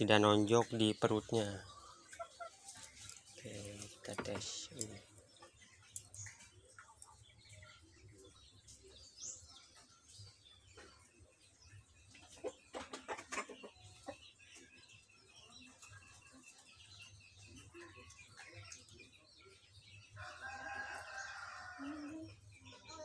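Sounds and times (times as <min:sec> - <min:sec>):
chickens clucking: 0:00.0 - 0:23.0
small birds chirping: 0:00.0 - 0:23.0.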